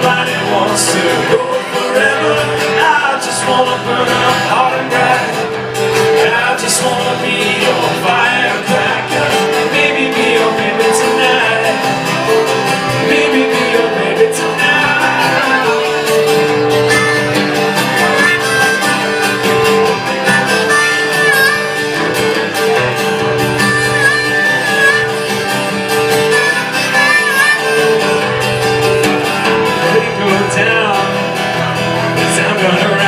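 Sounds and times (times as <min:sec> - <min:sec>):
guitar accompaniment: 0:00.0 - 0:33.0
lead melody with bending notes: 0:00.0 - 0:33.0
live band playing instrumental: 0:00.0 - 0:33.0.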